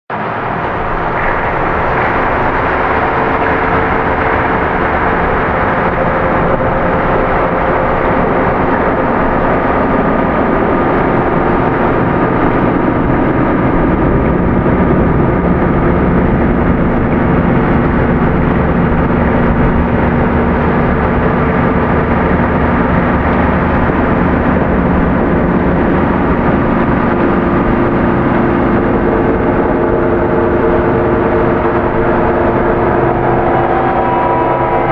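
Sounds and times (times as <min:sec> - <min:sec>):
dark ambient drone music: 0:00.1 - 0:34.9.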